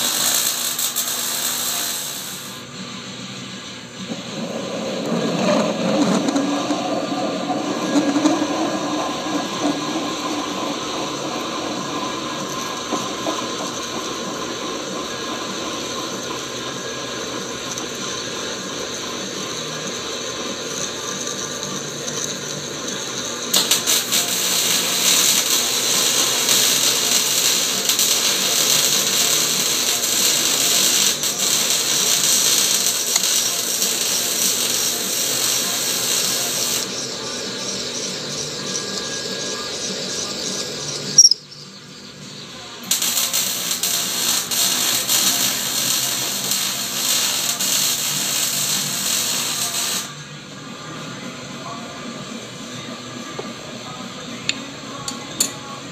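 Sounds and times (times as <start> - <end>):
drill cutting into steel: 0.0 - 2.6, 6.2 - 41.5, 42.8 - 50.1
metal lathe running: 0.0 - 50.3.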